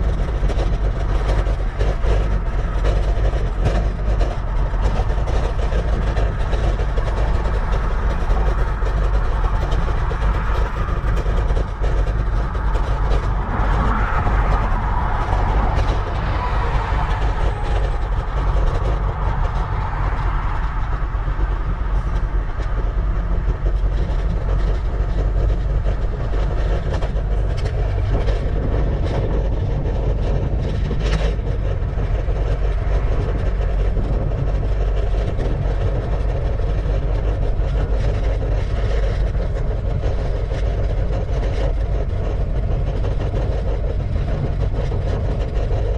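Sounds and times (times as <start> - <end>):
tyre and road noise: 0.0 - 45.9
wind rush on microphone: 0.0 - 45.9.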